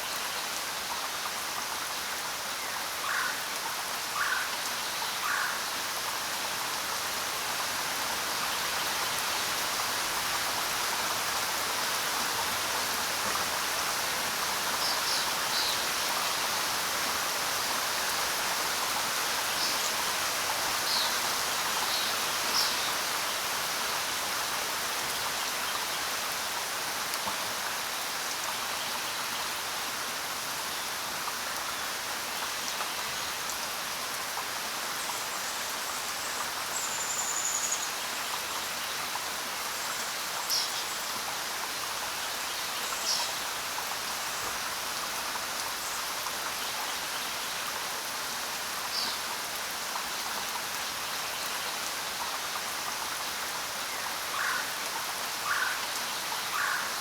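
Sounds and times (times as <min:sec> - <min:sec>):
rain falling on ground: 0:00.0 - 0:57.0.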